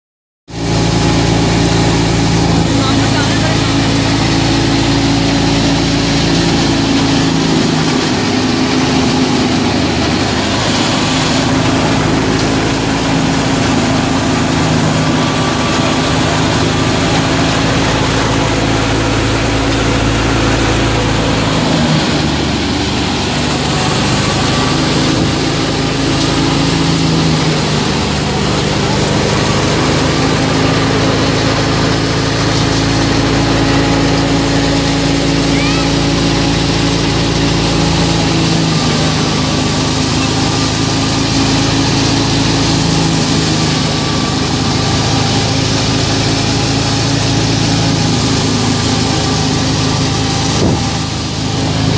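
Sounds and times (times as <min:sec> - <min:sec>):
thresher rushing noise: 0:00.5 - 0:51.9
tractor diesel engine running: 0:00.5 - 0:51.9.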